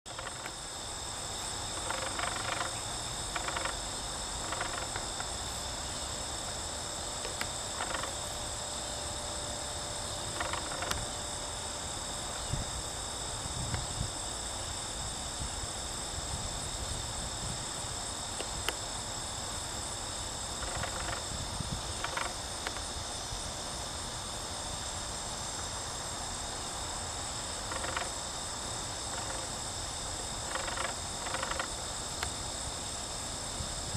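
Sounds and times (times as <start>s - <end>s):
crickets chorus: 0.0s - 33.9s.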